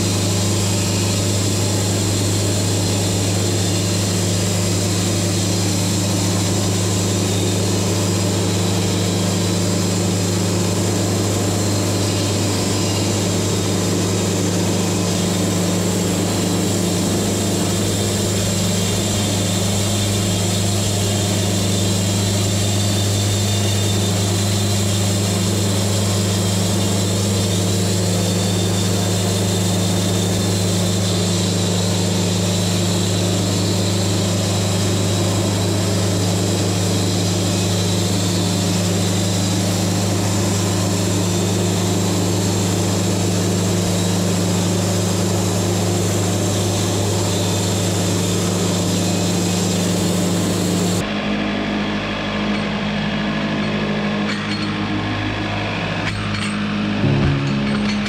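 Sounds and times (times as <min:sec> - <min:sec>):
saw blade cutting log: 0:00.0 - 0:51.0
sawmill engine drone: 0:00.0 - 0:58.0.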